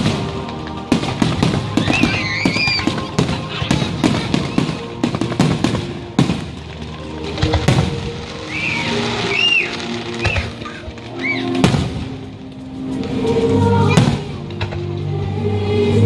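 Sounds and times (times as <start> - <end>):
fireworks bangs and crackles: 0.0 - 15.1
music over loudspeakers: 0.0 - 16.0.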